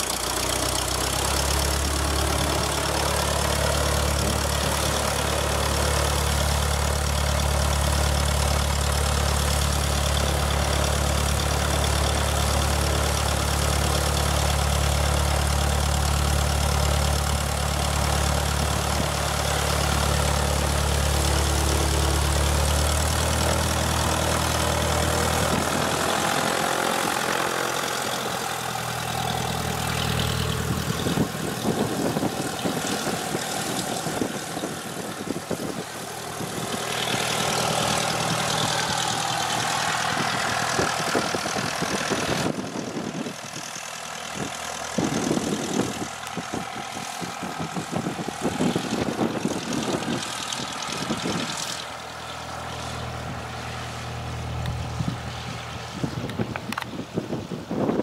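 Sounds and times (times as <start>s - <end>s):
light aircraft engine idling: 0.0s - 58.0s.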